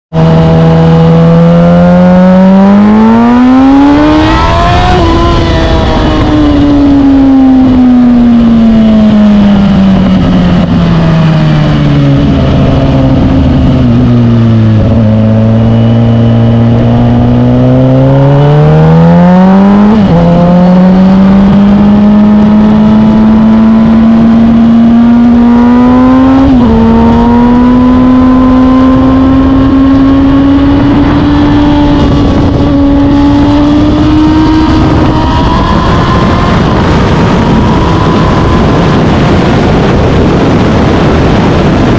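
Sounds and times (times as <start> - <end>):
motorcycle engine revving: 0.1 - 41.9
steady rushing noise: 0.1 - 41.9.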